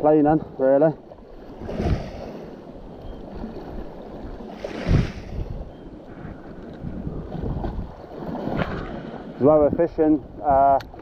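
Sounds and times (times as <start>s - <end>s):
sea washing against rocks: 1.4s - 10.4s
wind buffeting the microphone: 1.4s - 11.0s.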